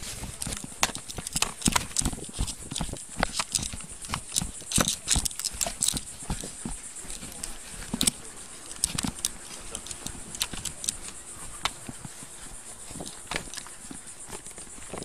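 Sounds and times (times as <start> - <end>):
duty belt gear jingling: 0.0 - 15.0
footsteps on pavement: 0.0 - 15.0
steady high hiss: 0.0 - 15.0.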